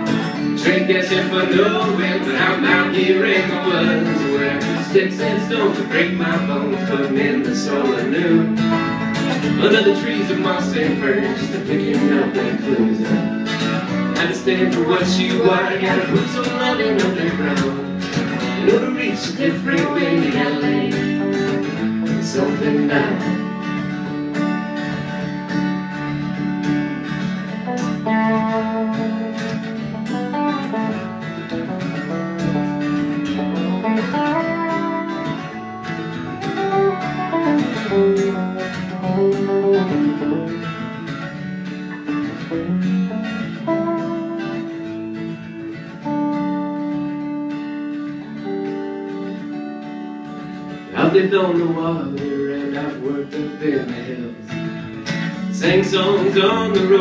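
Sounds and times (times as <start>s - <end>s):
acoustic guitar strumming: 0.0s - 57.0s
electric guitar melody: 0.0s - 57.0s.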